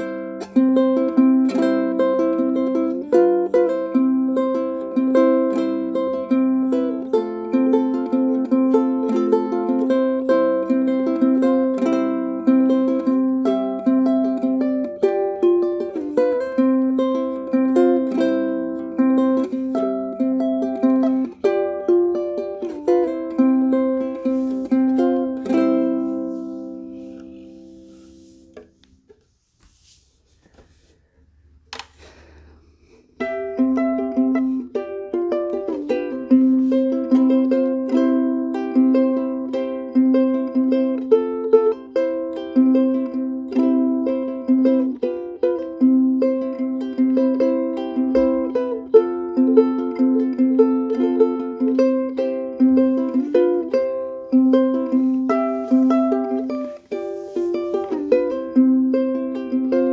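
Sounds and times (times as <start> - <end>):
ukulele plucked notes and chords: 0.0 - 29.1, 31.7 - 59.9.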